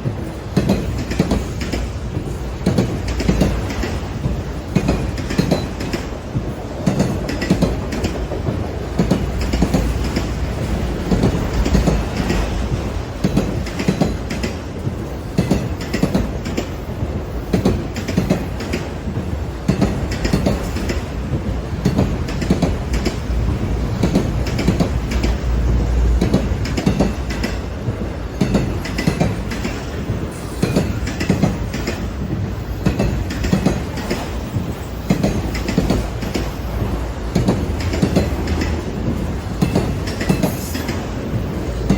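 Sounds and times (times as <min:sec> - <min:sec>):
train rumble: 0:00.0 - 0:41.9
train wheels clicking over rail joints: 0:00.0 - 0:41.9.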